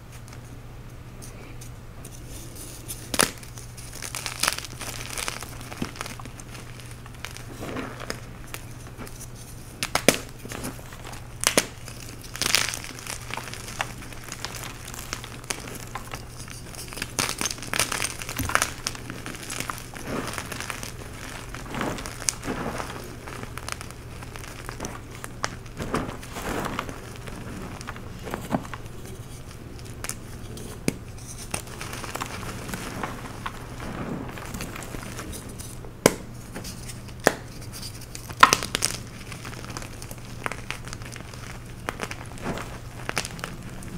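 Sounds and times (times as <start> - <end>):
powder sifting: 2.0 - 43.9
chalk crushed by hand: 2.1 - 43.9.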